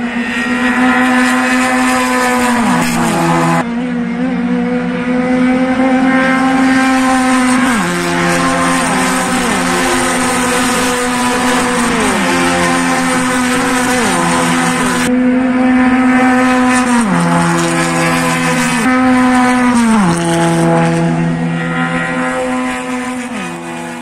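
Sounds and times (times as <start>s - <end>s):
racing cars passing at high revs: 0.0s - 24.0s.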